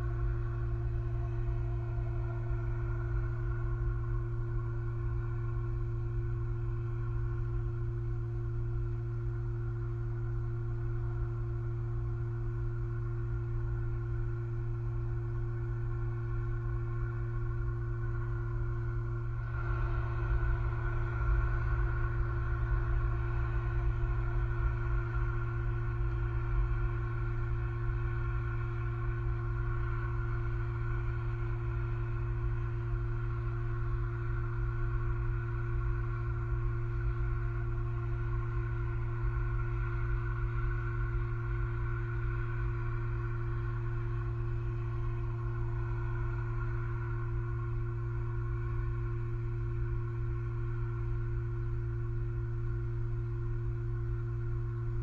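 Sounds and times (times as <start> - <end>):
electrical hum: 0.0 - 55.0
low rumble: 0.0 - 55.0.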